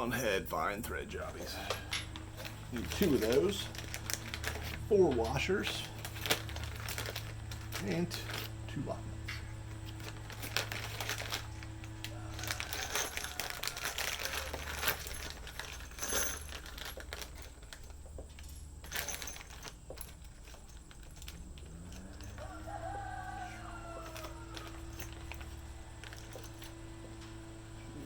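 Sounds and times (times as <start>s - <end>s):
metal hardware clinking: 1.2s - 28.0s.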